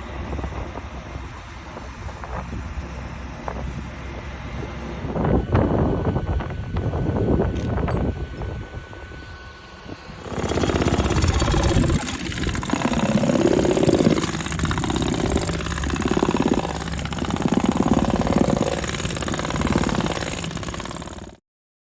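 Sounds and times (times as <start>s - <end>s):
large engine running: 0.0s - 21.4s.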